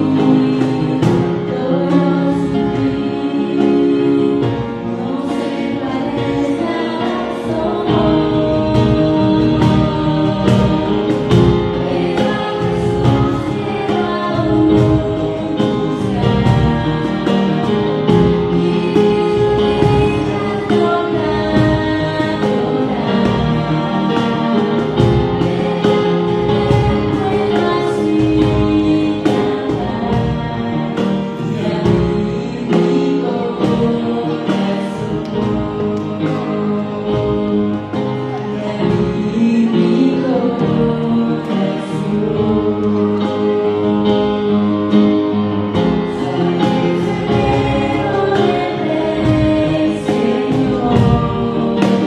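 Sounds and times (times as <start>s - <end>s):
man and woman singing: 0.0s - 44.5s, 45.6s - 52.0s
cajon beat: 0.0s - 52.0s.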